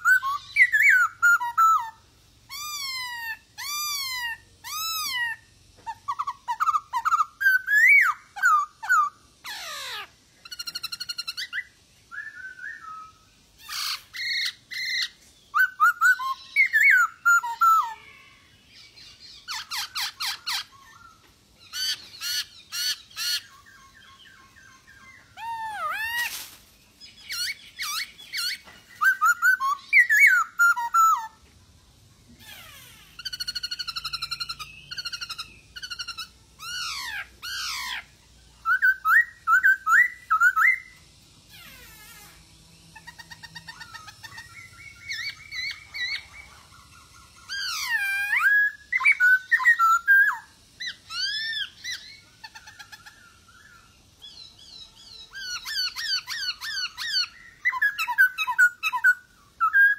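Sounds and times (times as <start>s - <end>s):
bird harsh rattling calls: 0.0s - 11.8s, 13.6s - 18.0s, 19.0s - 31.4s, 32.3s - 59.9s
bird singing whistled phrases: 0.0s - 26.3s, 27.0s - 31.4s, 33.1s - 41.1s, 43.0s - 46.6s, 47.4s - 59.9s.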